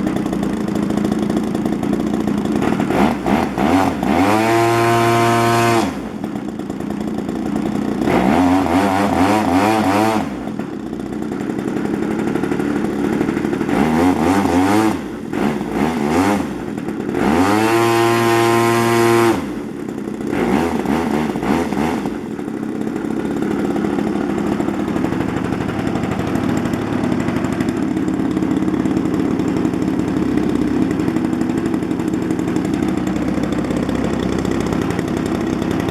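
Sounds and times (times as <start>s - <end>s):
model airplane engine revving: 0.0s - 35.9s.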